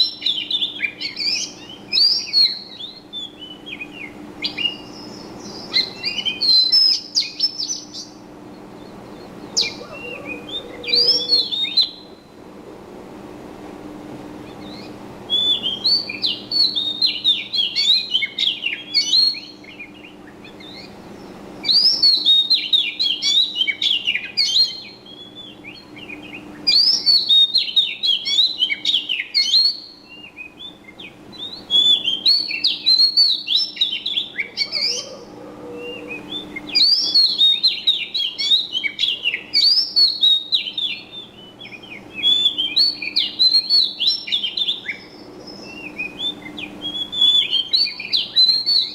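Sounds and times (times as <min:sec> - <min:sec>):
songbird chirping and twittering: 0:00.0 - 0:12.6, 0:14.3 - 0:48.9.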